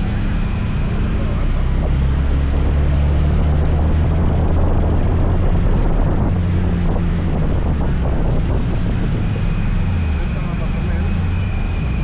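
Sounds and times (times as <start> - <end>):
scooter engine humming: 0.0 - 12.0
wind buffeting microphone: 0.0 - 12.0.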